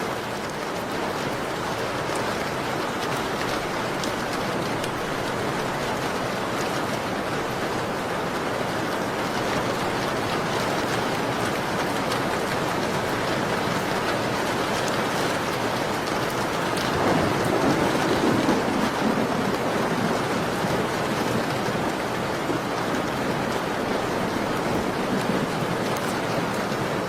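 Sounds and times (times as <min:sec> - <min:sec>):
steady falling rain: 0:00.0 - 0:27.0.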